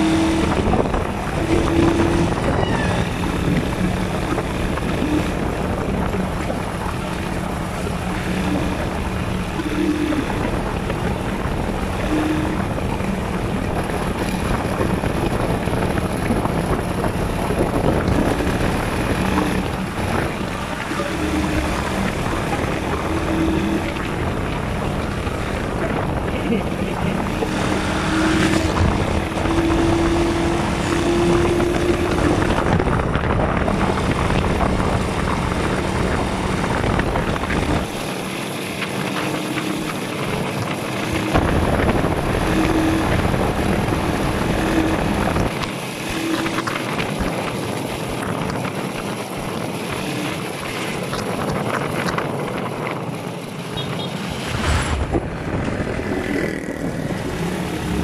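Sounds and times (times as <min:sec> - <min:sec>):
motorcycle engine running: 0:00.0 - 0:58.0
wind rumbling on microphone: 0:00.0 - 0:58.0.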